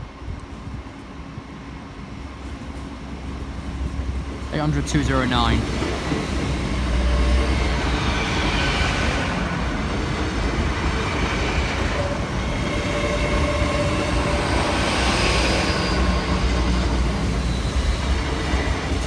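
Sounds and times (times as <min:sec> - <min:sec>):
diesel train engine rumble: 0:00.0 - 0:19.0.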